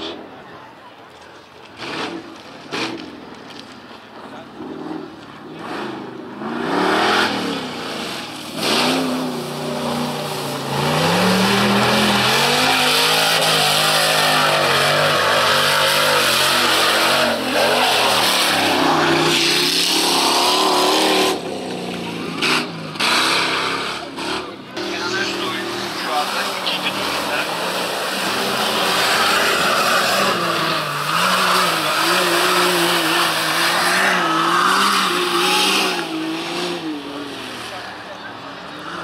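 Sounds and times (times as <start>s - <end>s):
race car engines revving: 0.0s - 39.0s.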